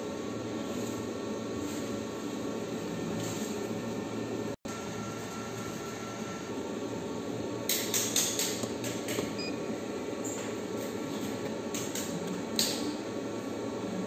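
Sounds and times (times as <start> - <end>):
fan-like hum: 0.0 - 14.0.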